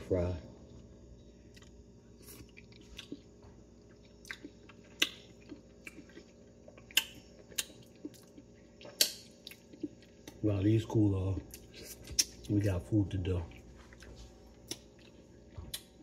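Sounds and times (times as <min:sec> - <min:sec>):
faint steady hum: 0:00.0 - 0:16.0
chewing and lip-smacking: 0:01.5 - 0:10.4, 0:11.2 - 0:12.7, 0:13.3 - 0:16.0.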